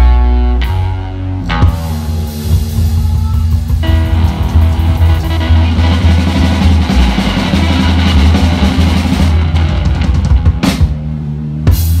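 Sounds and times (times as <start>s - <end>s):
rockabilly band playing: 0.0s - 12.0s.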